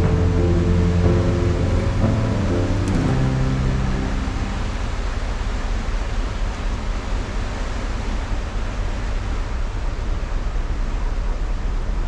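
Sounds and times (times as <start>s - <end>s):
deep ship engine rumble: 0.0s - 12.0s.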